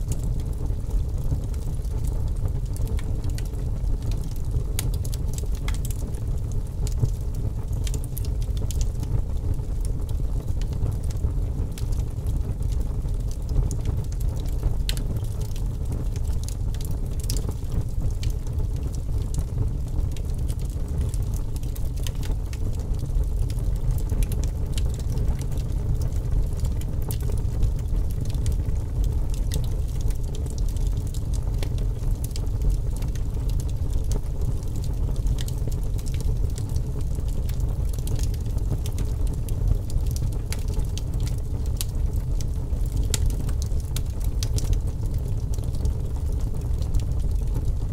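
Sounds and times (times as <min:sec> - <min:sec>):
fire crackling and popping: 0:00.0 - 0:47.9
low rumble of flames: 0:00.0 - 0:47.9.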